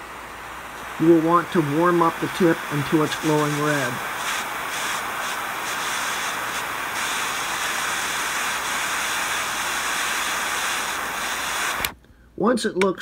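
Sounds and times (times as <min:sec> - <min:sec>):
jet lighter flame hissing: 0:00.4 - 0:12.0.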